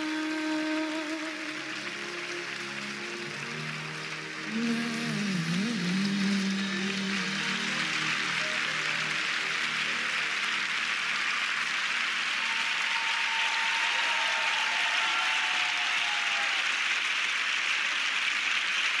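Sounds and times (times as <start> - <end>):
studio audience applauding: 0.0 - 19.0.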